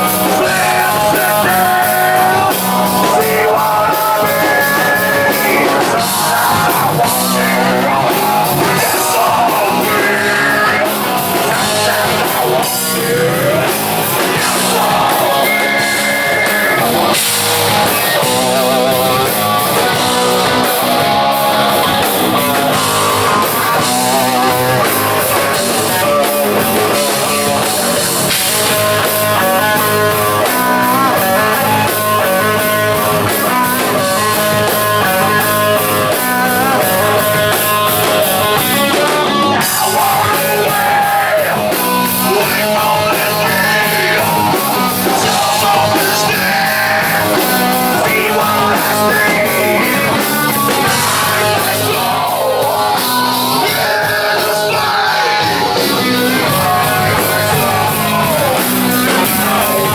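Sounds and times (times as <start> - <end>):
electric guitar: 0.0 - 59.9
person singing: 0.0 - 59.9
rock band playing live: 0.0 - 59.9.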